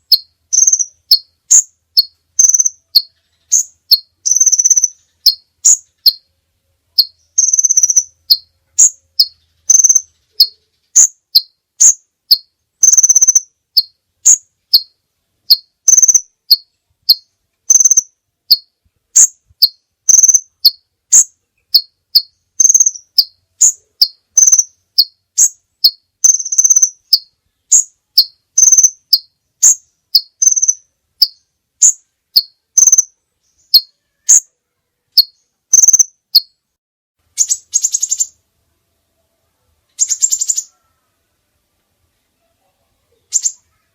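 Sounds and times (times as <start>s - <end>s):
songbird chirping: 0.0s - 43.9s.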